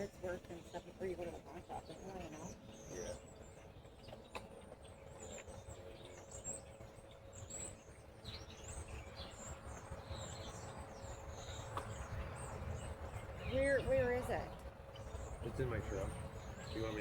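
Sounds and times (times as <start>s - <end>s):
low rumbling background noise: 0.0s - 17.0s
small birds chirping: 0.0s - 17.0s.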